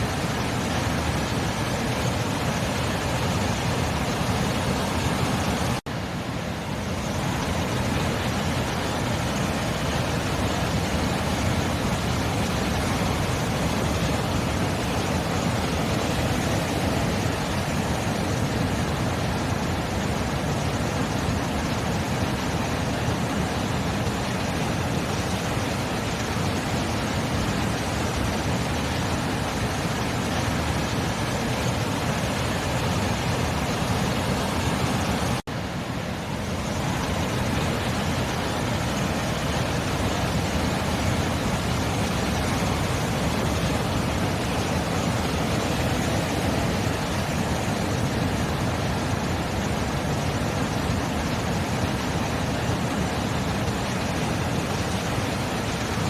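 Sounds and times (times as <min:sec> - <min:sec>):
sea surf roaring: 0:00.0 - 0:56.0.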